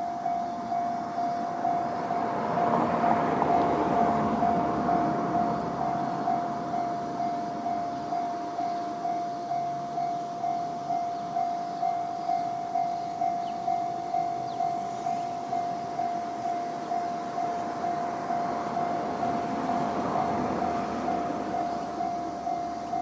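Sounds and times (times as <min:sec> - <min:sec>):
approaching electric train: 0:00.0 - 0:23.0
level crossing warning bell: 0:00.0 - 0:23.0.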